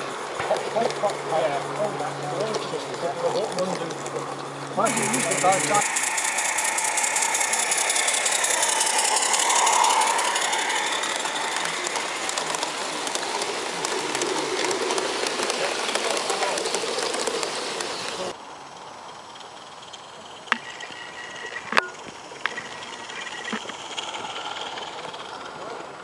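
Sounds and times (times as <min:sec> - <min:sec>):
model train wheels clicking on track: 0:00.0 - 0:26.0.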